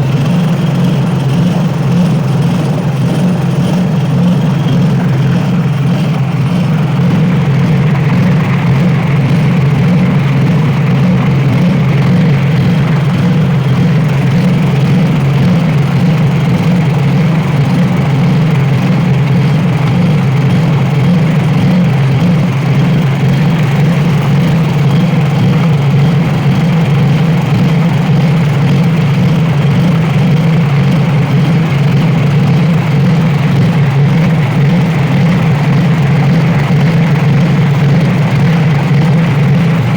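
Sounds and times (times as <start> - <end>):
petrol engine running steadily: 0.0 - 39.9.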